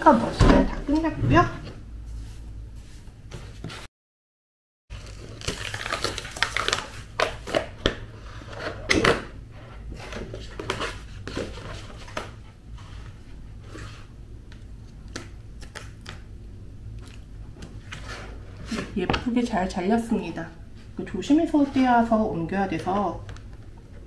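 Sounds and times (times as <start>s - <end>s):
low steady hum: 0.0s - 3.8s, 4.9s - 24.0s.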